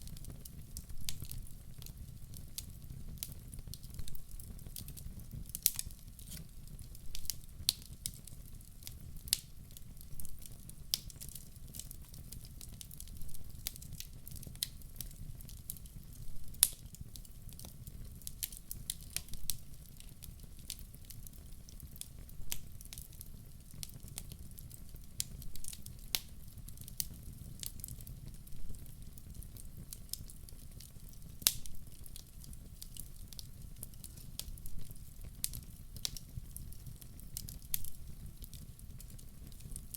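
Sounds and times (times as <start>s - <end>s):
fire rumbling: 0.0s - 39.9s
wood crackling and popping: 0.0s - 39.9s.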